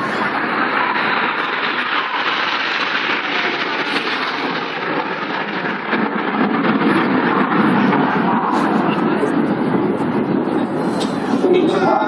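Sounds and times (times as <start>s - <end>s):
jets flying over: 0.0s - 12.0s.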